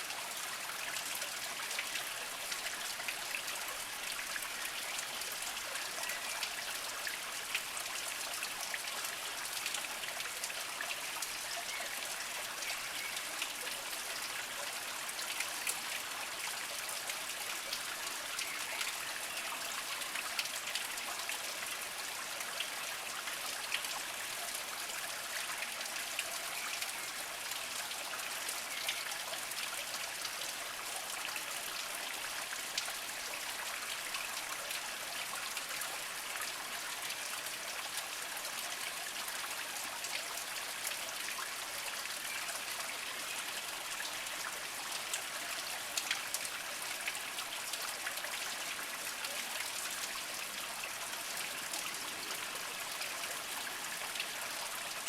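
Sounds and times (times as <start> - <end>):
spring water trickling over rocks: 0.0 - 55.0.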